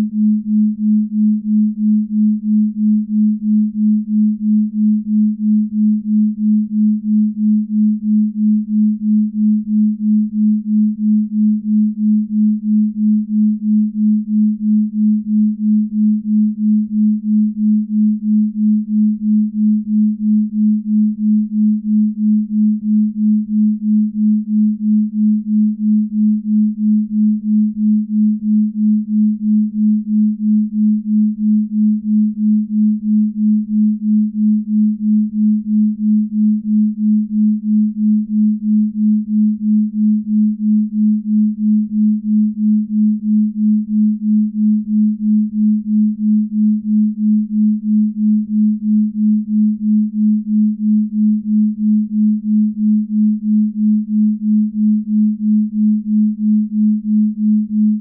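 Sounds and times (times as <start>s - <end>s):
pulsing low sine tone: 0.0s - 58.0s.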